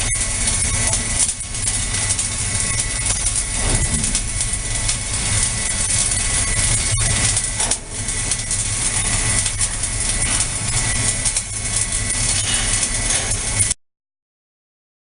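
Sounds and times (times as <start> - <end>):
low hum: 0.0 - 13.8
welding arc crackling hiss: 0.0 - 13.8.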